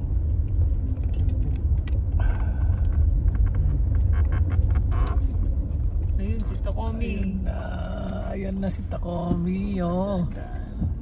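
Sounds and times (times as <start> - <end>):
car rumbling: 0.0 - 11.0.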